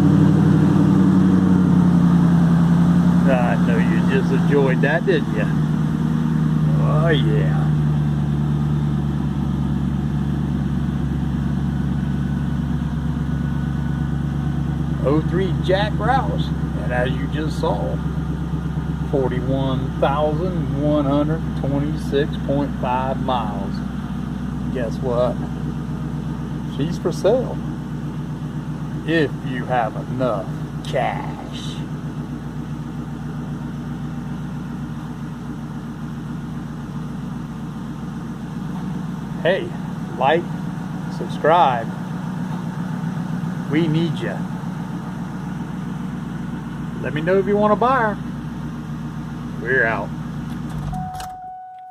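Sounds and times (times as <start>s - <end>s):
car engine idling: 0.0s - 51.5s.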